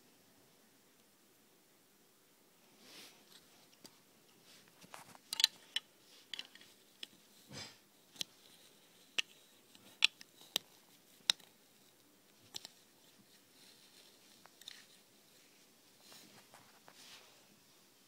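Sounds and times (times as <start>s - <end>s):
soft rustle: 2.6s - 18.0s.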